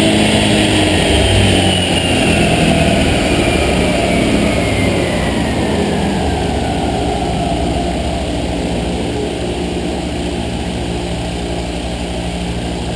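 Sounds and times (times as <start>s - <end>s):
car engine running on dyno: 0.0s - 12.9s
faint whine falling in pitch: 0.0s - 12.9s.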